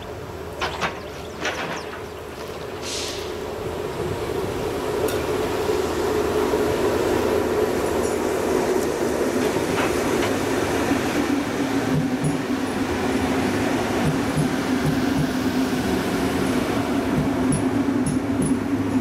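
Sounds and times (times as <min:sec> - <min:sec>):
electric train rumble: 0:00.0 - 0:19.0.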